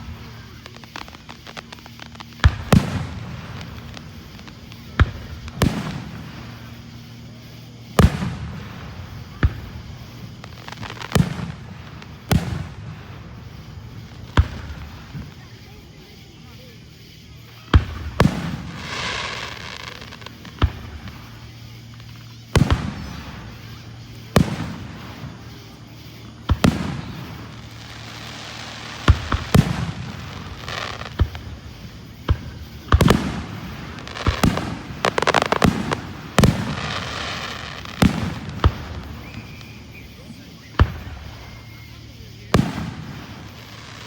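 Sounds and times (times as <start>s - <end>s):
fireworks booming and crackling: 0.0s - 44.0s.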